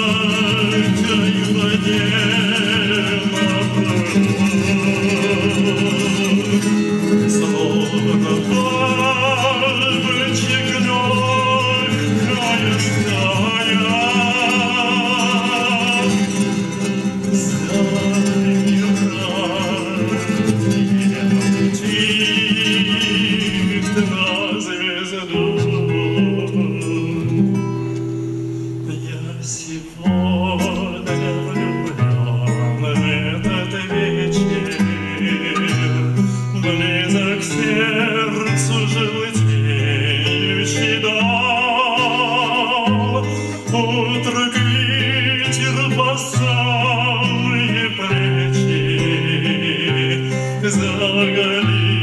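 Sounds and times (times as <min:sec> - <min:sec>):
man singing: 0:00.0 - 0:27.9, 0:28.8 - 0:52.0
acoustic guitar: 0:00.0 - 0:52.0.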